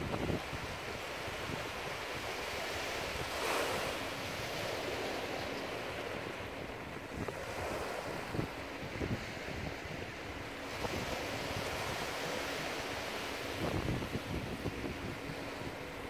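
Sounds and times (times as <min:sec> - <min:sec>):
small waves washing on shore: 0:00.0 - 0:16.0
wind buffeting microphone: 0:00.0 - 0:16.0.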